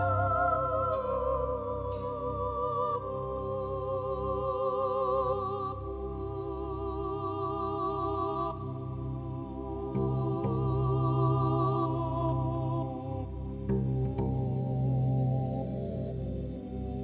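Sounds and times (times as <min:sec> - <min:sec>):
music with long wavering held notes: 0:00.0 - 0:17.0.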